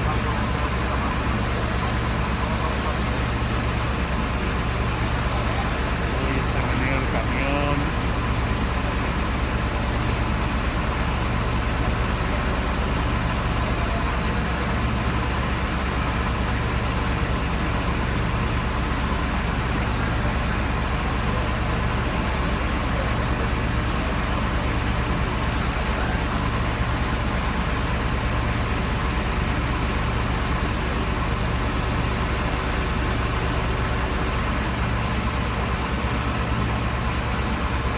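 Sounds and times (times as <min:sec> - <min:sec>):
diesel truck engine droning: 0:00.0 - 0:37.9.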